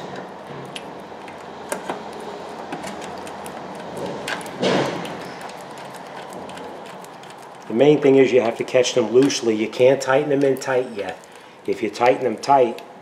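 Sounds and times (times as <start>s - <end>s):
bolts clicking and tapping: 0.0s - 12.9s
steady background hum: 0.0s - 13.0s.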